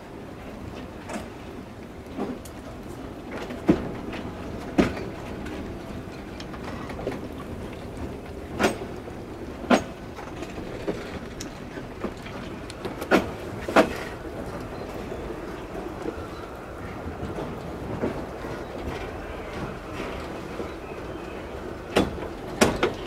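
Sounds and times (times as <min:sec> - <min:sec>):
train rumbling on rails: 0:00.0 - 0:23.0
wheels clacking over rail joints: 0:00.5 - 0:23.0.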